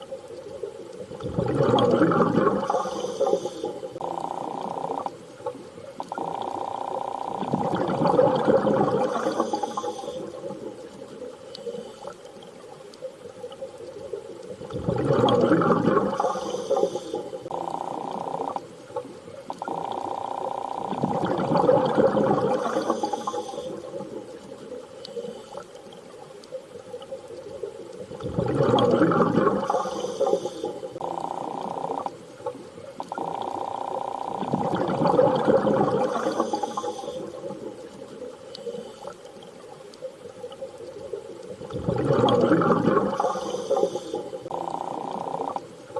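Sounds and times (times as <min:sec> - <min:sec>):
watery rushes: 0:00.0 - 0:45.9.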